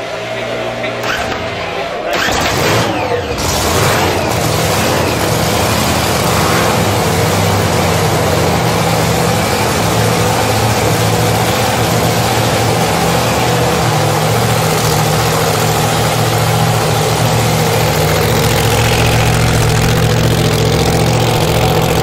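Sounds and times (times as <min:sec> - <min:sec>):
drag racing engine idling: 0:00.0 - 0:22.0.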